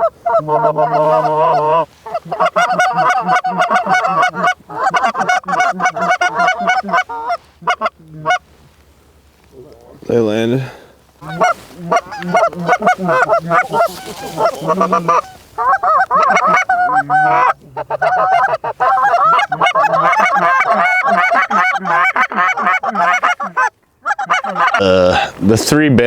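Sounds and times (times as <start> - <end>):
geese honking: 0.0 - 8.6, 10.1 - 25.3.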